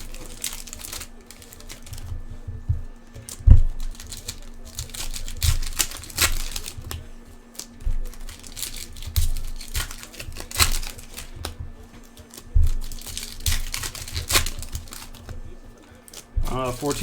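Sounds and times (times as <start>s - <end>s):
cards knocking on a table: 0.0s - 17.0s
foil wrappers crinkling and tearing: 0.0s - 17.0s.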